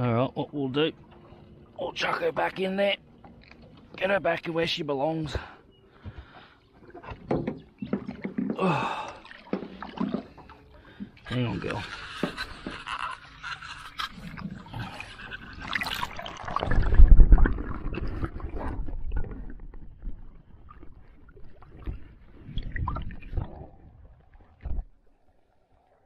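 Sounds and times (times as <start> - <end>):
water splashing against boat: 0.0 - 25.1.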